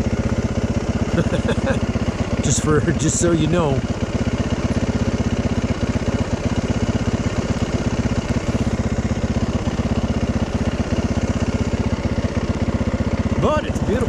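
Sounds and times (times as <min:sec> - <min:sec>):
dirt bike engine idling: 0:00.0 - 0:14.0.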